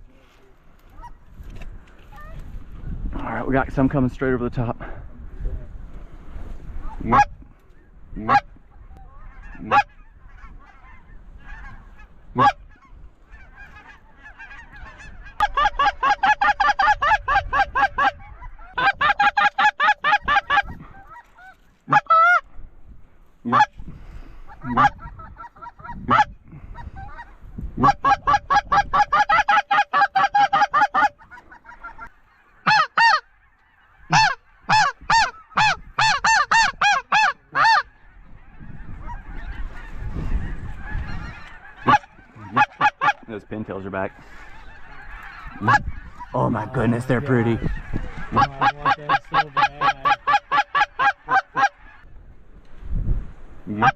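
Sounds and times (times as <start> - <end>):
goose call honks and clucks: 0.9 - 2.4, 6.8 - 22.5, 23.4 - 52.1, 53.7 - 53.9.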